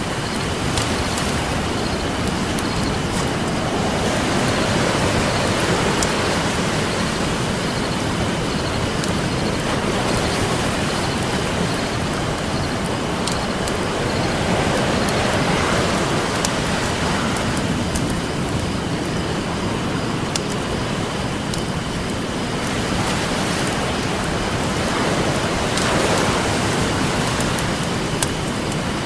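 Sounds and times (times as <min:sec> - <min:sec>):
campfire crackling: 0:00.0 - 0:29.0
ocean surf washing: 0:00.0 - 0:29.0.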